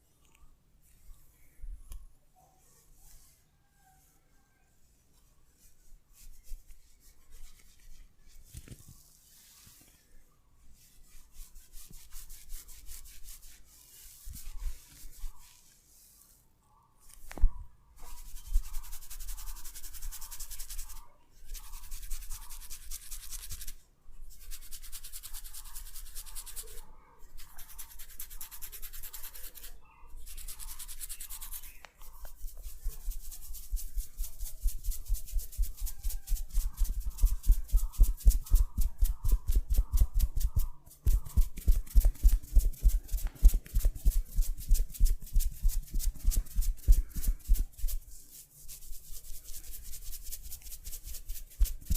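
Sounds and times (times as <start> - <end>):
hands rubbing oiled hair: 5.2 - 10.0, 10.7 - 16.4, 18.0 - 51.9.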